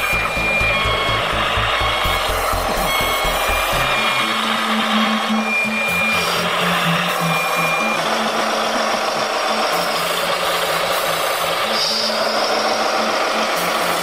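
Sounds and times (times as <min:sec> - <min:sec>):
electric motors whirring: 0:00.0 - 0:14.0
short high-pitched whines: 0:00.0 - 0:14.0.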